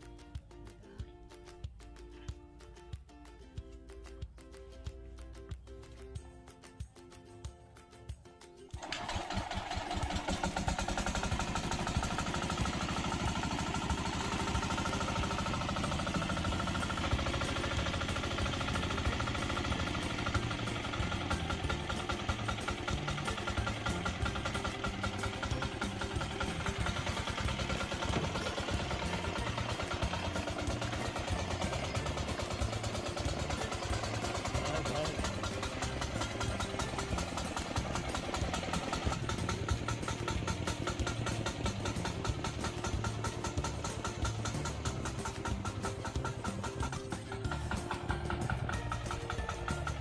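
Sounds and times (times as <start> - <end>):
small diesel engine chugging: 8.7 - 50.0.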